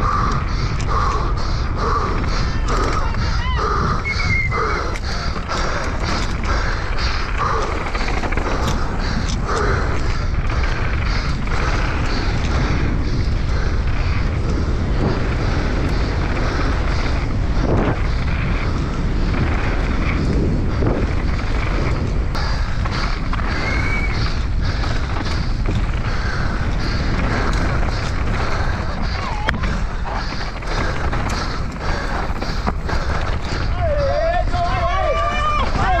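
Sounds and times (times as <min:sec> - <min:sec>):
bike chain and frame rattling: 0:00.0 - 0:36.0
tyres on dirt trail: 0:00.0 - 0:36.0
wind buffeting microphone: 0:00.0 - 0:36.0.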